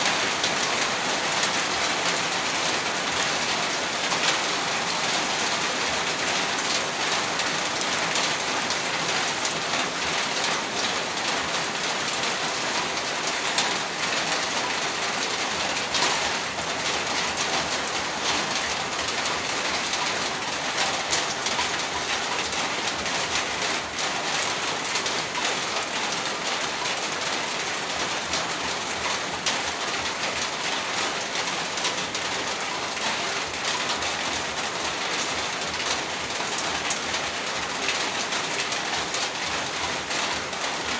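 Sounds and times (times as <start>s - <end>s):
heavy rain pouring: 0.0s - 40.9s
sharp rain splashes: 0.0s - 40.9s.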